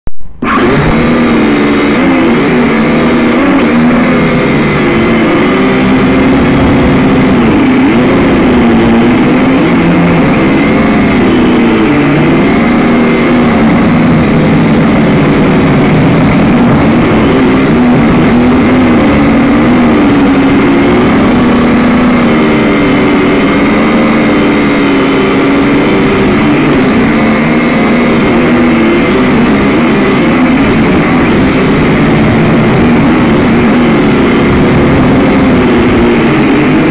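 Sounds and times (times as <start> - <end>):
drone propellers whining: 0.2 - 36.9.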